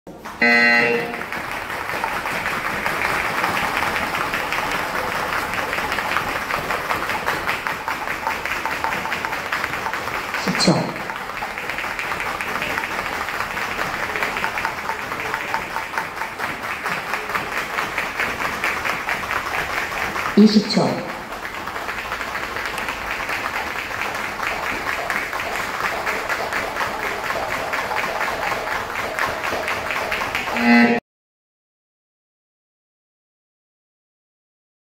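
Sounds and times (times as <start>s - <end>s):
jump ropes slapping the floor: 0.1s - 30.7s.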